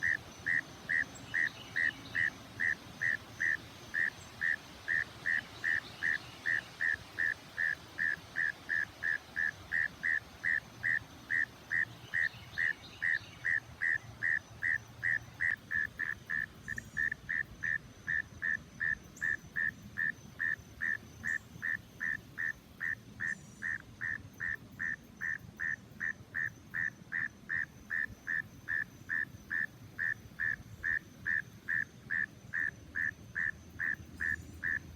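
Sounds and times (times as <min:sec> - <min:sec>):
frog calling: 0:00.0 - 0:34.9.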